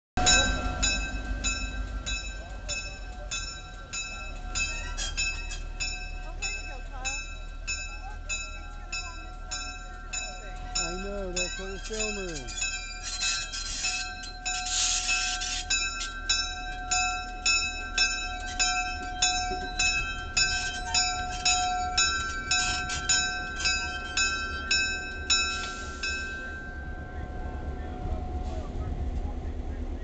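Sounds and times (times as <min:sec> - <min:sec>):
locomotive warning bell ringing: 0:00.2 - 0:29.2.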